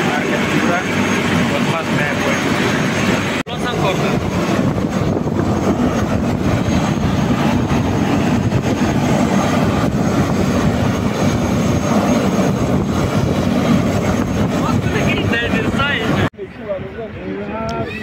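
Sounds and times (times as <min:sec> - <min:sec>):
helicopter roar: 0:00.0 - 0:18.0.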